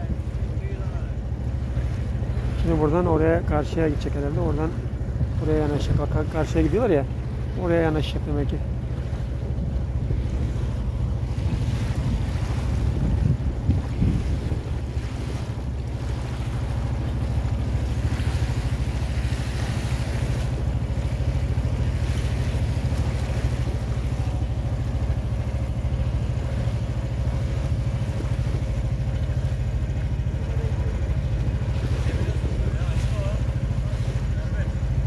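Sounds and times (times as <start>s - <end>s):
boat engine throbbing: 0.0s - 35.0s.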